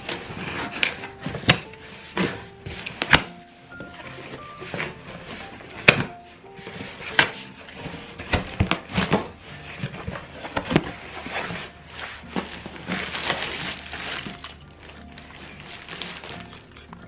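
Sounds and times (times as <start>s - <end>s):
packaging rustling and crinkling: 0.0s - 17.0s.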